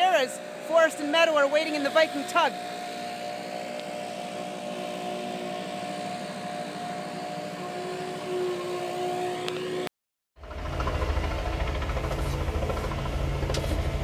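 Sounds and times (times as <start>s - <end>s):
helicopter rotor noise: 0.0s - 14.0s
helicopter turbine whine: 0.0s - 14.0s.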